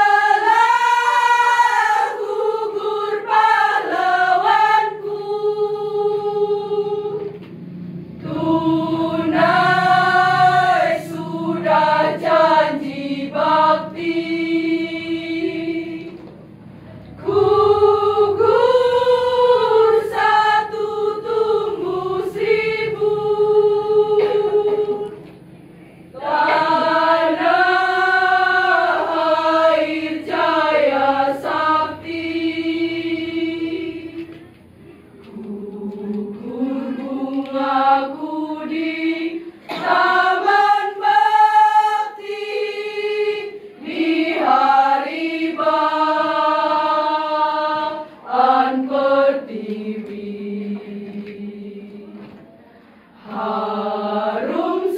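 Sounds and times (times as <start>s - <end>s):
women's choir singing: 0.0s - 54.9s.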